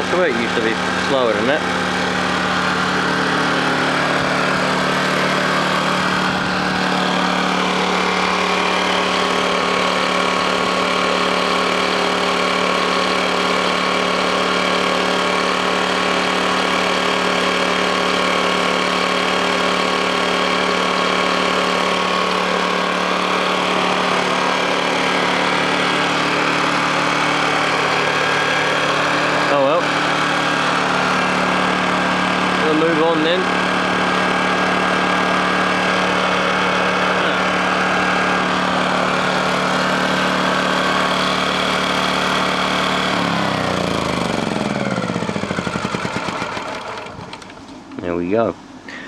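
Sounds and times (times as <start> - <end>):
generator engine running: 0.0 - 49.0.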